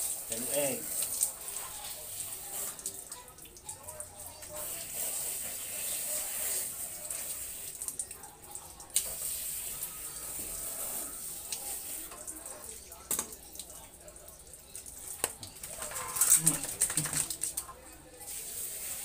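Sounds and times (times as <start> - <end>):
water from hose splashing on tiles: 0.0 - 19.0.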